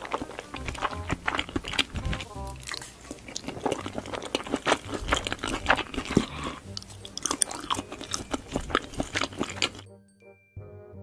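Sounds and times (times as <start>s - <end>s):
chewing with mouth clicks and smacks: 0.0s - 9.9s.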